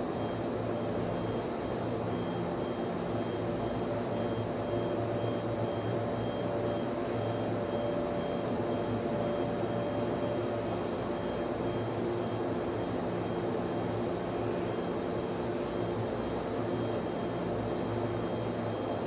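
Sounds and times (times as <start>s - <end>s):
cooling fans whirring drone: 0.0s - 19.0s
equipment hum: 0.0s - 19.0s.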